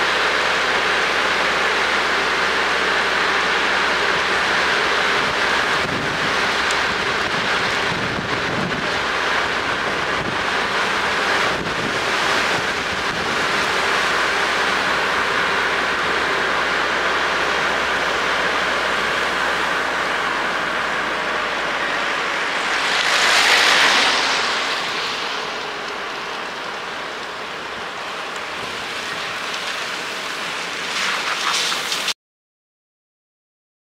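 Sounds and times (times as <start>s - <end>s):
harbour water washing and splashing: 0.0s - 32.2s.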